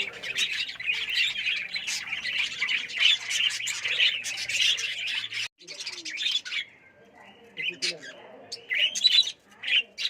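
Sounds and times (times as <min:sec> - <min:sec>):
lovebirds chirping and squawking: 0:00.0 - 0:10.0.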